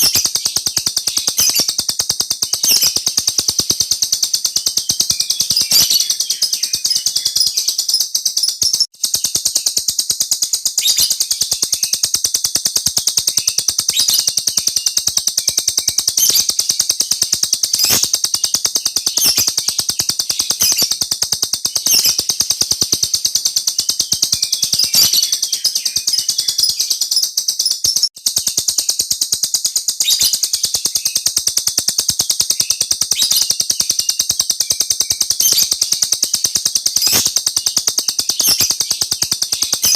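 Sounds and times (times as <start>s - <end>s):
songbird rolling trill: 0.0s - 39.9s.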